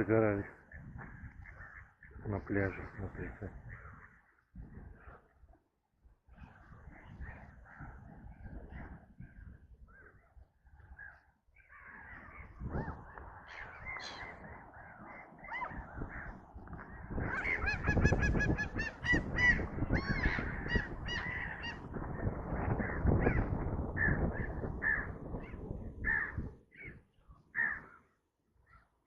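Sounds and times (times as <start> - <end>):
gulls calling: 0.0 - 5.2, 6.4 - 28.9.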